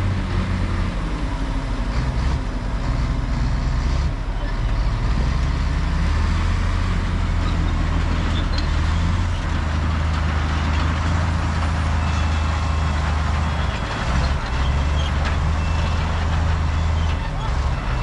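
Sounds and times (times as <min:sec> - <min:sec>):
heavy diesel engine droning: 0:00.0 - 0:18.0.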